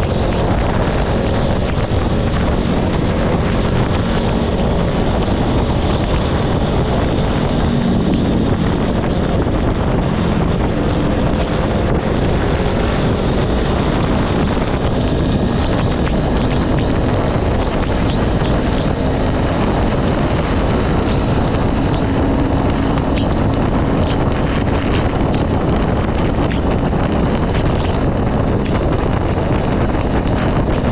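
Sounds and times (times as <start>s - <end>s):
motorcycle engine humming: 0.0s - 30.9s
wind rush on microphone: 0.0s - 30.9s.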